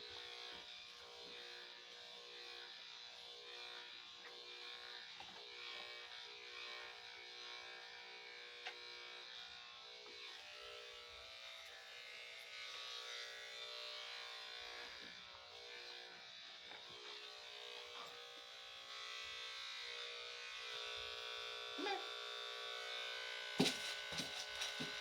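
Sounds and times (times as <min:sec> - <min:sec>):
electric clippers buzzing: 0:00.0 - 0:25.0.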